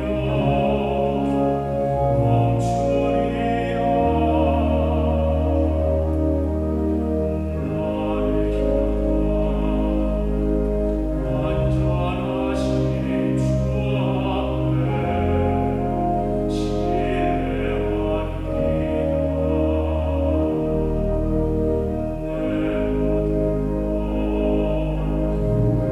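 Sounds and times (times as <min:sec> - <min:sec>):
held accompaniment chords: 0:00.0 - 0:25.9
person singing a slow sacred song: 0:00.0 - 0:25.9
sustained bass line: 0:00.0 - 0:25.9.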